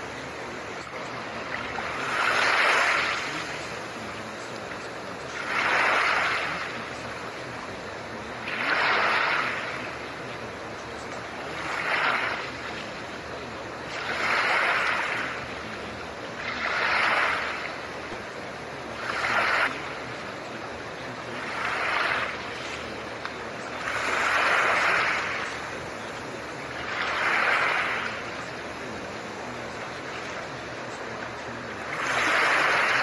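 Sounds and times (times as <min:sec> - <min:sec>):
ocean waves washing: 0:00.0 - 0:33.0
steady hiss: 0:00.0 - 0:33.0.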